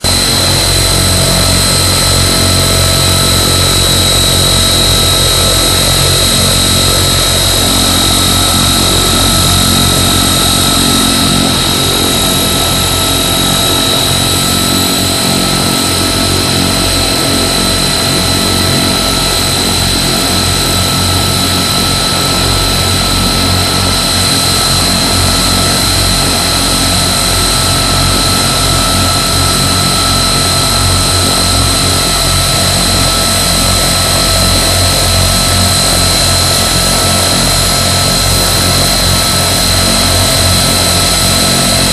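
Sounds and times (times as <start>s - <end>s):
propeller drone: 0.0s - 41.9s
turbine whine: 0.0s - 41.9s.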